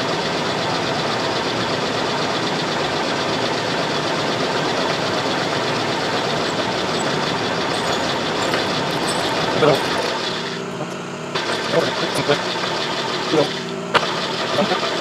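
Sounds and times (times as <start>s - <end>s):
machine tool drilling metal: 0.0s - 15.0s.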